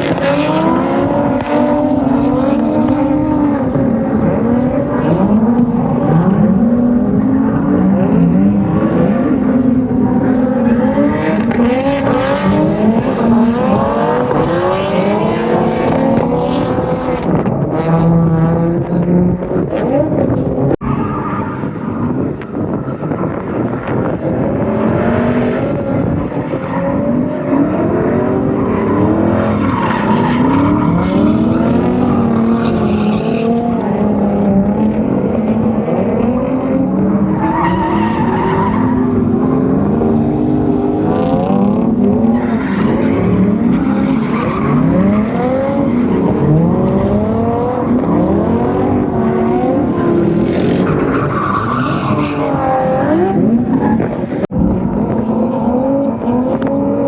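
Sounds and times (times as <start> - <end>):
car engines revving: 0.0 - 57.0
tires skidding and squealing: 0.0 - 57.0.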